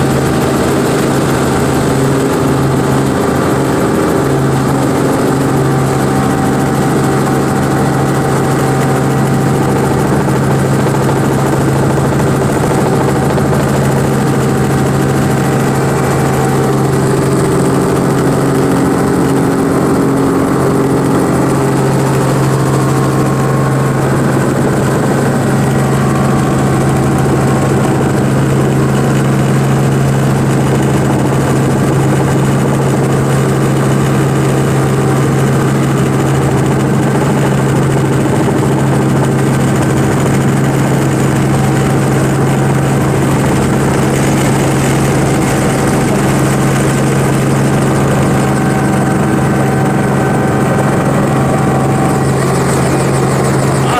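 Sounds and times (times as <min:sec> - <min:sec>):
helicopter engine and rotors: 0:00.0 - 0:53.9.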